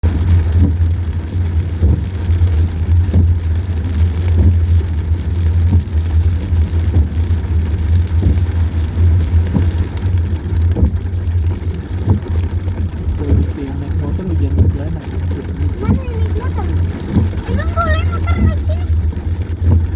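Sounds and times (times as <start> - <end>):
car driving drone: 0.0 - 19.9
rain hissing: 0.0 - 19.9
raindrops tapping on car: 0.0 - 19.9.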